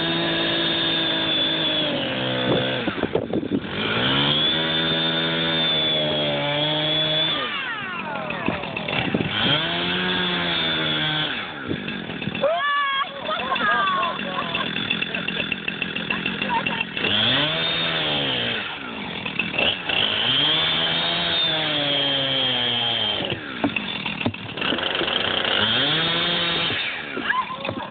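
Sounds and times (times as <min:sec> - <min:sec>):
chainsaw cutting ice: 0:00.0 - 0:27.9.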